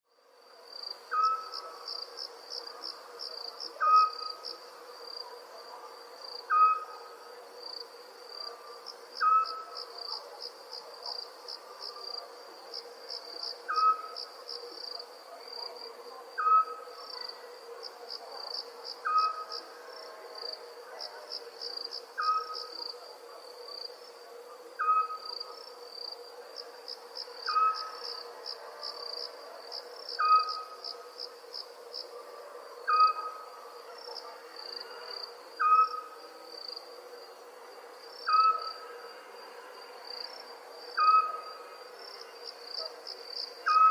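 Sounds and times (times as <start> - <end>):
crickets chirping: 0.2 - 43.9.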